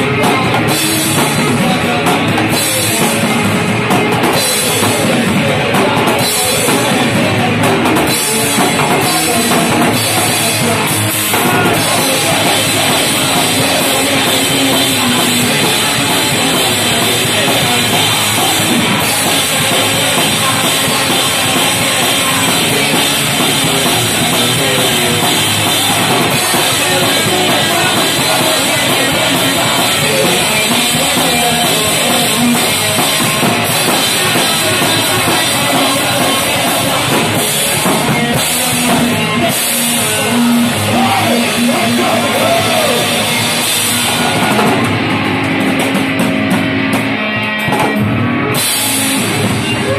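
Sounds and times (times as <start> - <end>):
pounding drum kit: 0.0 - 49.9
punk rock band playing: 0.0 - 49.9.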